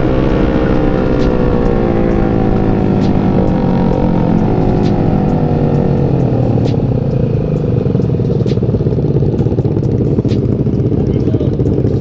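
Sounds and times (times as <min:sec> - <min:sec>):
motorcycle engine idling unevenly: 0:00.0 - 0:12.0
motorcycle engine winding down: 0:00.0 - 0:12.0.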